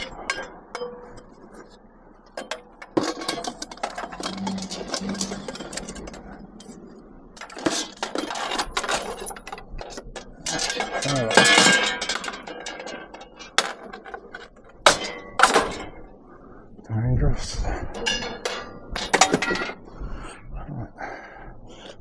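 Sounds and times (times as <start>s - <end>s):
scrap metal clanking: 0.0s - 16.1s, 18.0s - 19.8s.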